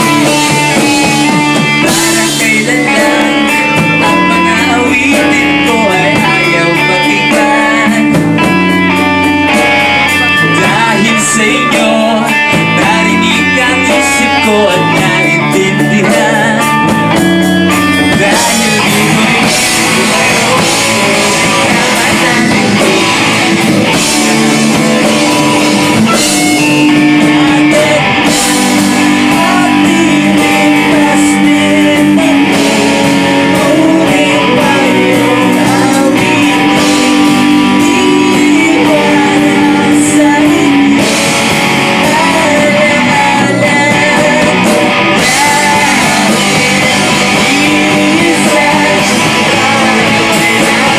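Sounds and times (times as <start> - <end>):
bass guitar: 0.0 - 50.9
drum kit: 0.0 - 50.9
electric guitars: 0.0 - 50.9
lead singer singing: 0.0 - 50.9.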